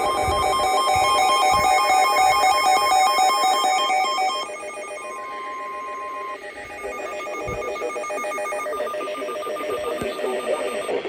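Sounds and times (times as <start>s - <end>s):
steady alert tone: 0.0s - 11.0s
warbling electronic beeps: 0.0s - 11.0s.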